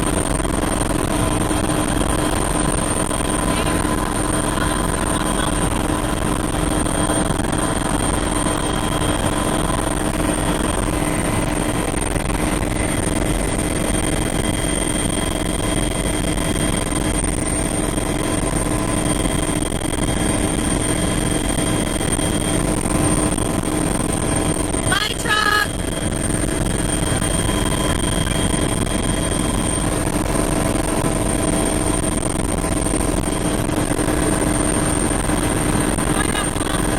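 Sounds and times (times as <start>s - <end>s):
helicopter rotor and engine: 0.0s - 36.9s
steady whining tones: 0.0s - 36.9s.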